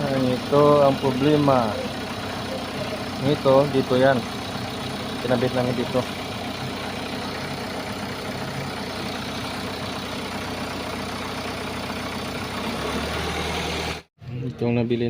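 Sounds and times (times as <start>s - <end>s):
diesel engine idling: 0.0s - 14.1s.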